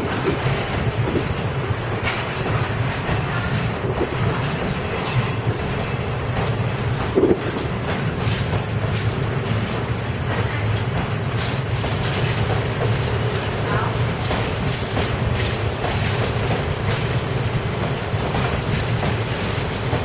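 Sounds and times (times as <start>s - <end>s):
freight train wheels rumbling: 0.0s - 20.0s
wheels clacking over rail joints: 0.0s - 20.0s.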